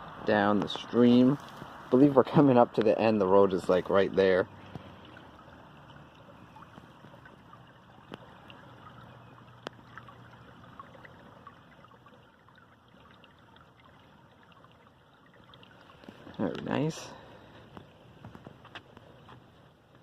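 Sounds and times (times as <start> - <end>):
stream trickling under ice: 0.0 - 20.0.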